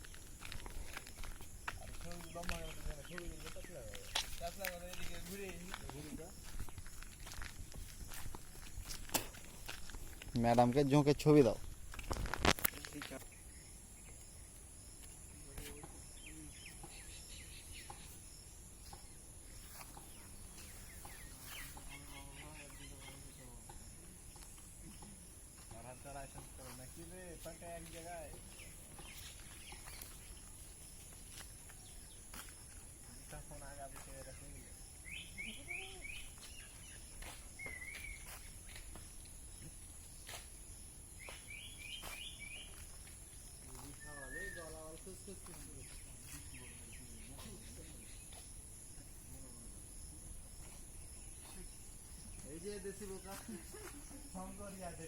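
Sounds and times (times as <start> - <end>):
faint high-pitched hiss: 0.0 - 55.0
small birds chirping: 0.0 - 55.0.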